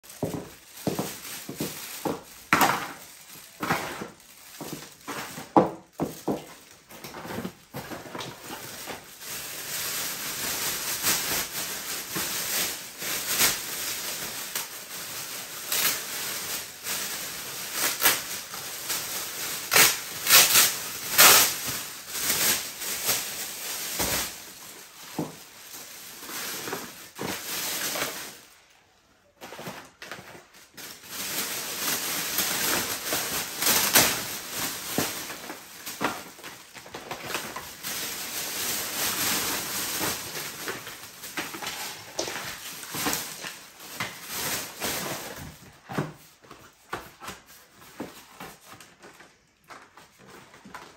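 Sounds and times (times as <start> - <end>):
plastic bag crinkling: 0.0 - 50.9.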